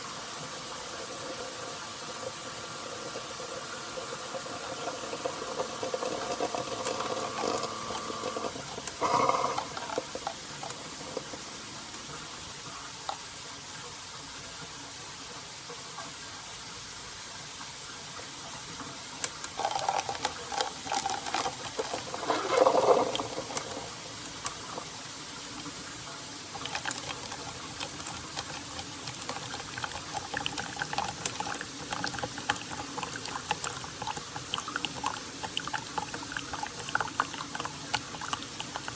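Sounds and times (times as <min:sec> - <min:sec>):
coffee maker humming: 0:00.0 - 0:13.4, 0:19.2 - 0:38.9
liquid trickling and gurgling: 0:01.0 - 0:14.0, 0:18.2 - 0:38.9.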